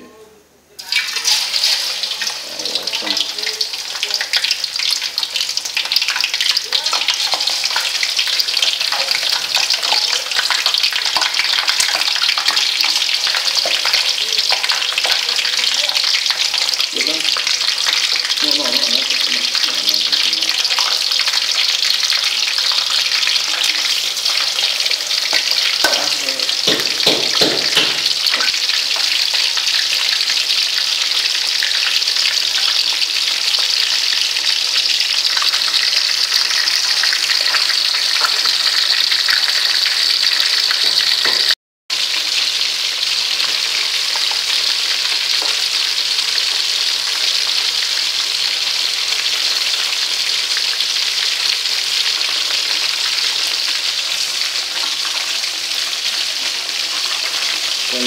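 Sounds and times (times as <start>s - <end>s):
fish deep-frying in oil: 0.8s - 58.0s.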